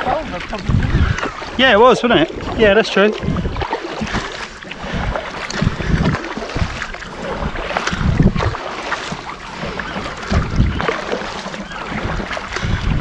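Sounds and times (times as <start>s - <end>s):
paddles splashing in water: 0.0s - 13.0s
wind rumbling on microphone: 0.0s - 13.0s.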